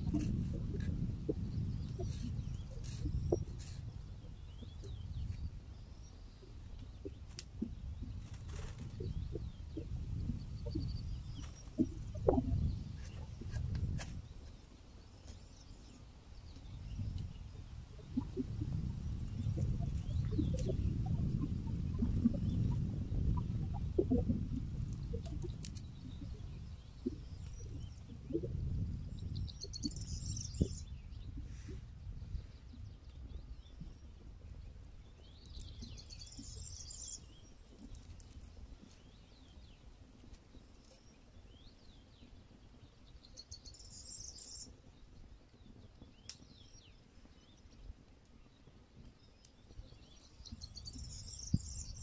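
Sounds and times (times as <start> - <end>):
faint bird chirps: 0.0 - 24.3, 25.1 - 38.2, 38.8 - 52.0.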